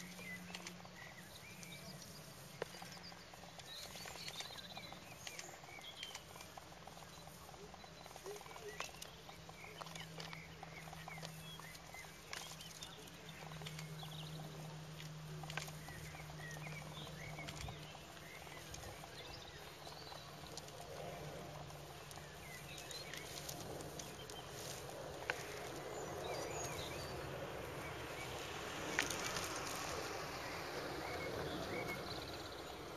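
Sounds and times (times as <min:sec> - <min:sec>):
birds chirping: 0:00.0 - 0:32.9
dry twigs clicking and rustling: 0:00.0 - 0:32.9.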